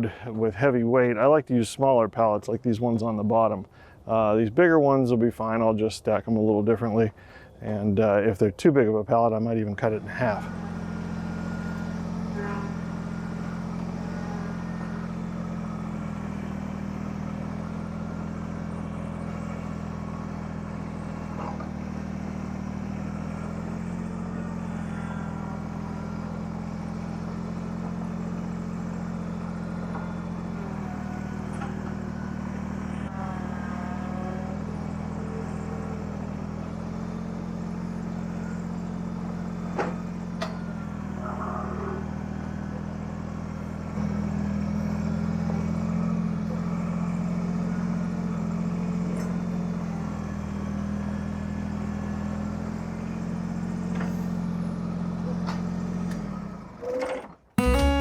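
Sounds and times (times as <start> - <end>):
tractor diesel engine running: 0.0 - 4.4, 9.1 - 58.0.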